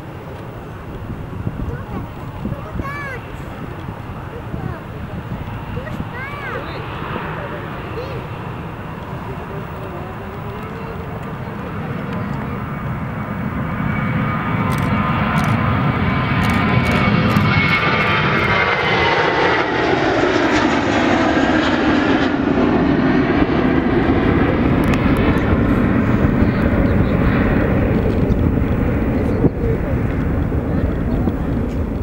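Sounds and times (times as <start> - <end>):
heavy rumble: 0.0 - 32.0
jet engine whine: 0.0 - 32.0
jet engines roaring: 0.0 - 32.0.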